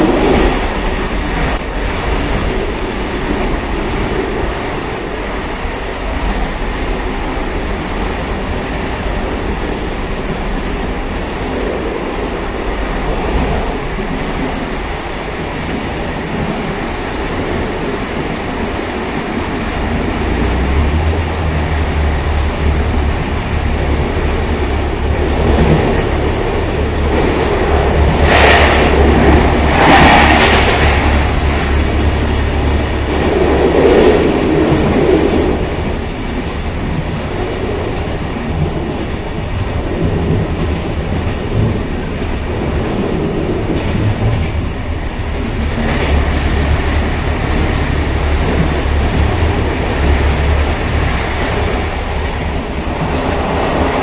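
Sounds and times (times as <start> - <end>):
low drone: 0.0 - 54.0
railcar wheels rumbling on track: 0.0 - 54.0.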